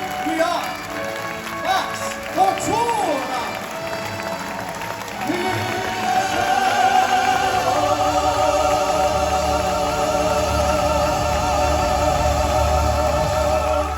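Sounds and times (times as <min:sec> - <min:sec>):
accompanying music: 0:00.0 - 0:13.9
operatic singing: 0:00.0 - 0:13.9.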